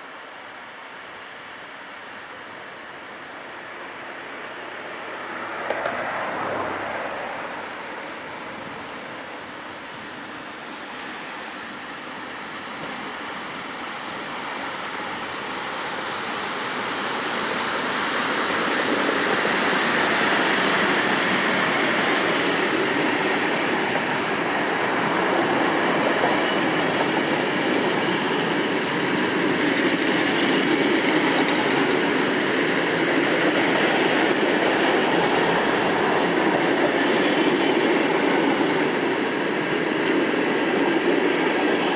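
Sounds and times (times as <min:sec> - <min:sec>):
train wheels rumbling on rails: 0:02.3 - 0:41.9.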